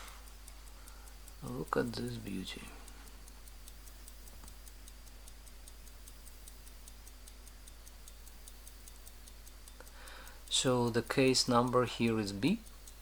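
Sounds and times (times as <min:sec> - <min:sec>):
pocket watch ticking: 0:00.0 - 0:13.0.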